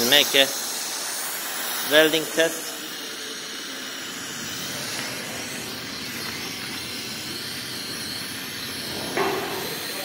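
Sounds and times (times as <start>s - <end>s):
welding machine hissing: 0.0s - 10.0s.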